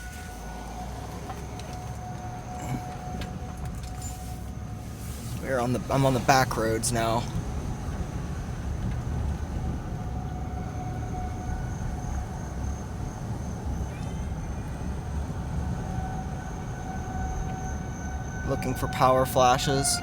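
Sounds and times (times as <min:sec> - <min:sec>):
car interior road rumble: 0:00.0 - 0:20.0.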